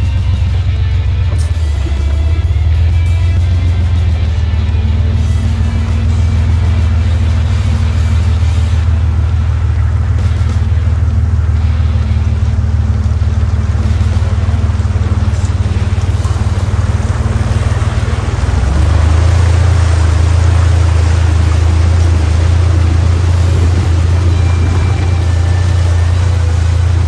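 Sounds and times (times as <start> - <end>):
jeep engine running: 0.0 - 27.0
water splashing from tyres: 0.0 - 27.0.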